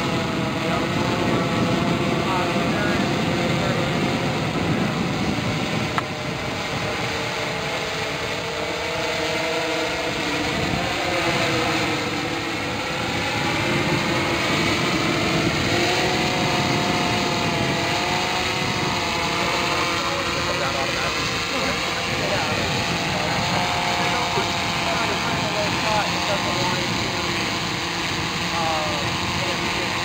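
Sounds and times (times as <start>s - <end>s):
drone propellers humming: 0.0s - 30.0s.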